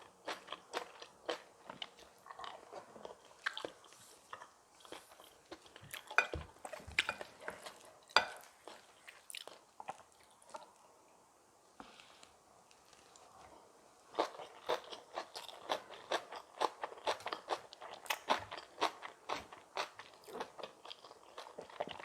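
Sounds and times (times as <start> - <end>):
person chewing crunchy food: 0.0 - 10.7, 12.7 - 22.0.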